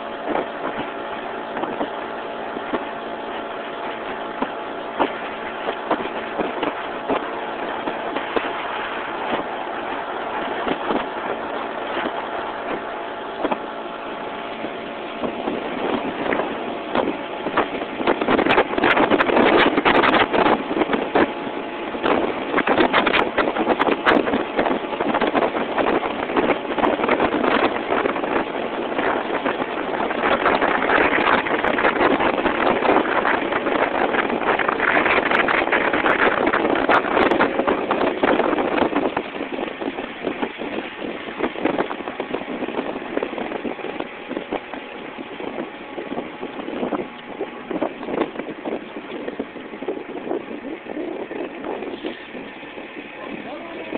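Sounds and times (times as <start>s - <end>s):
outboard motor running: 0.0s - 53.9s
wind buffeting microphone: 0.0s - 53.9s.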